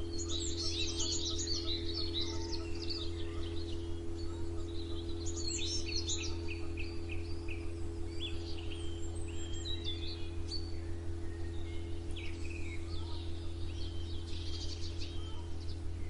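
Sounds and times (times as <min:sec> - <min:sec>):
songbirds chirping: 0:00.0 - 0:16.0
steady low hum: 0:00.0 - 0:16.0.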